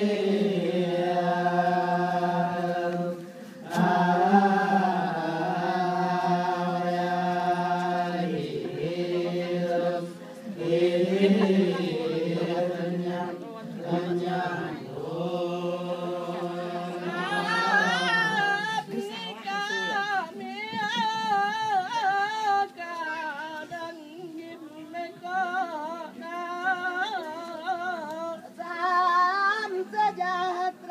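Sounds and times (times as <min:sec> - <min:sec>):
person singing chant-like melody: 0:00.0 - 0:30.9.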